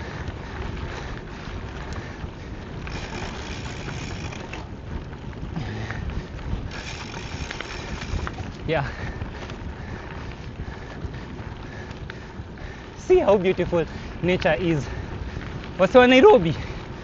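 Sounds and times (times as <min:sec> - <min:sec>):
bike rumbling over dirt trail: 0:00.0 - 0:17.0
wind buffeting microphone: 0:00.0 - 0:17.0.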